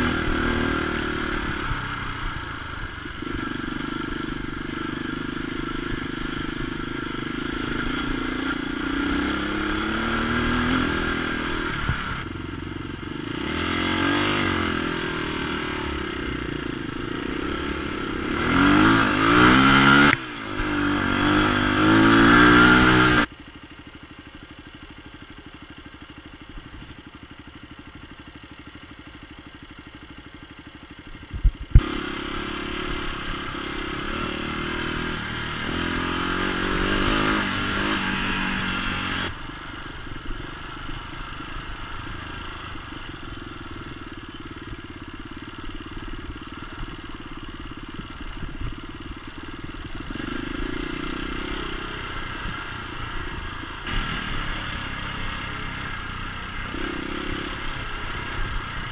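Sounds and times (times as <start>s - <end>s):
dirt bike engine: 0.0s - 58.9s.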